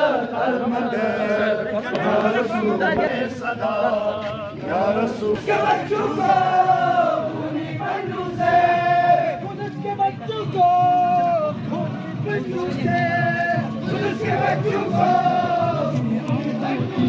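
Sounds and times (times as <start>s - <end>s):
crowd chanting slogans: 0.0s - 17.0s
din of many voices: 0.0s - 17.0s.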